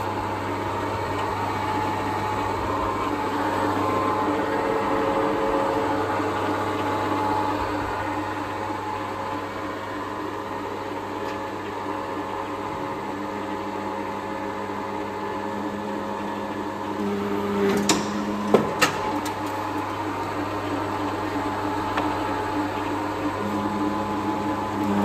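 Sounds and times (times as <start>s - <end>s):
deeper hum: 0.0s - 25.0s
machine electric hum: 0.0s - 25.0s.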